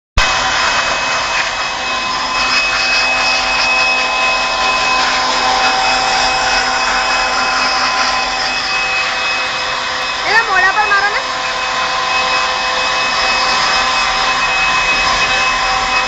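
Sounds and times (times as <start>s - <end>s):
electric blower motor whine: 0.2s - 16.0s.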